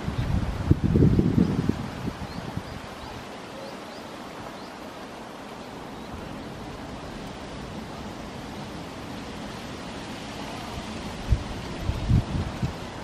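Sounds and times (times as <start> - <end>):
outdoor ambience hiss: 0.0 - 13.0.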